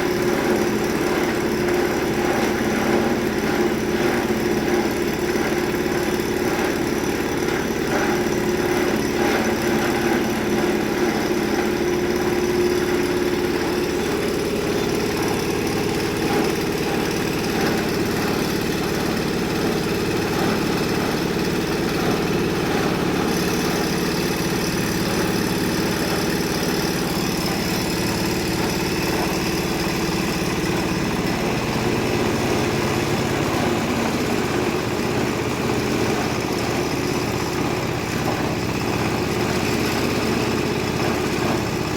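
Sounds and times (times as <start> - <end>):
chopper grinder machine running: 0.0 - 41.9.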